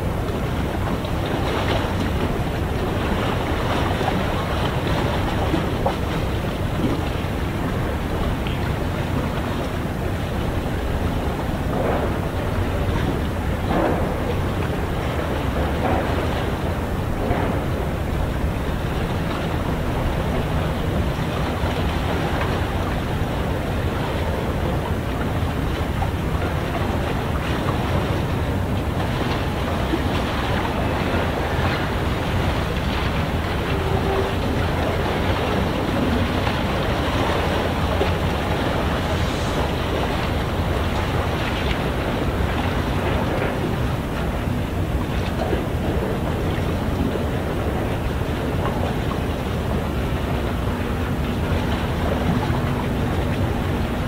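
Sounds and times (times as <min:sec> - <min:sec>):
water rumbling: 0:00.0 - 0:54.0
wind: 0:00.0 - 0:54.0.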